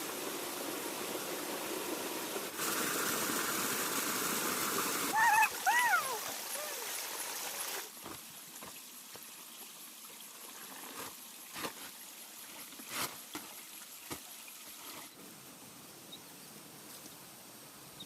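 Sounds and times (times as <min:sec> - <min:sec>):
water trickling: 0:00.0 - 0:15.2.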